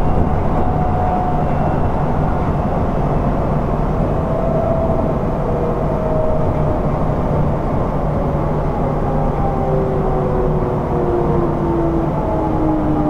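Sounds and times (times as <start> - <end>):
train motor whine: 0.0 - 13.0
wheels rumbling on rail: 0.0 - 13.0.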